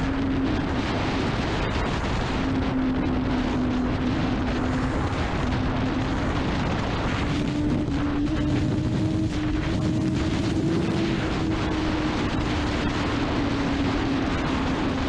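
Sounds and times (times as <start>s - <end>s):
wind rush on microphone: 0.0s - 15.0s
motorcycle engine running: 1.5s - 15.0s.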